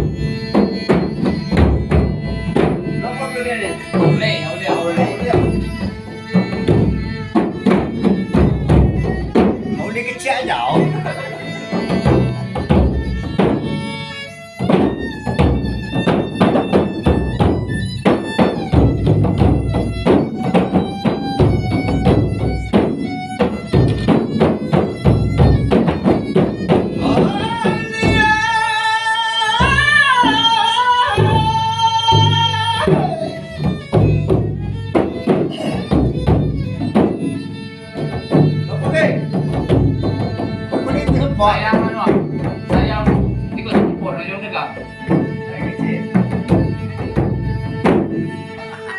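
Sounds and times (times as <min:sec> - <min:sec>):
hand drums beating: 0:00.0 - 0:48.9
held melody: 0:00.0 - 0:48.9
high wavering melody: 0:00.0 - 0:48.9.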